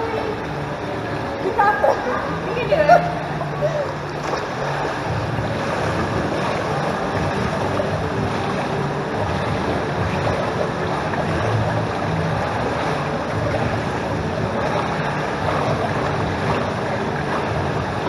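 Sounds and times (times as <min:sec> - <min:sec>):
low hum: 0:00.0 - 0:18.0
pool water lapping and splashing: 0:00.0 - 0:18.0.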